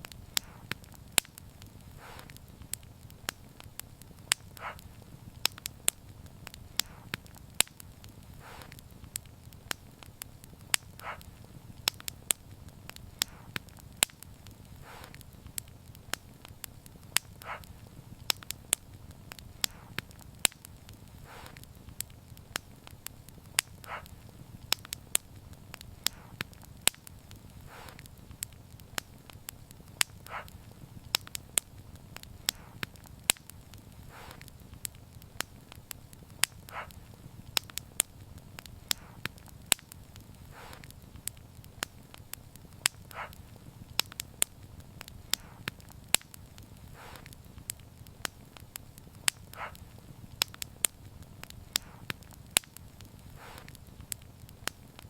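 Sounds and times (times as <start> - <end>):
low rumble of flame: 0.0 - 55.0
soft hiss: 0.0 - 55.0
wood fire crackling and popping: 0.0 - 55.0.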